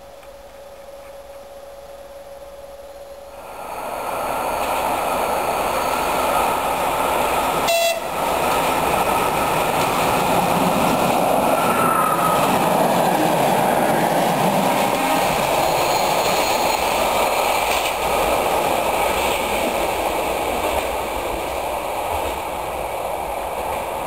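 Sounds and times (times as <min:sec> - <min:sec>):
diesel train passing: 0:00.2 - 0:24.0.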